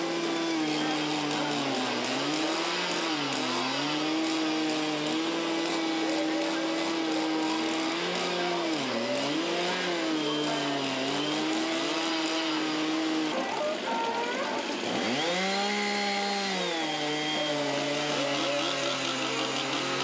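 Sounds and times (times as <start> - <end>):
chainsaws running at high revs: 0.0 - 20.0.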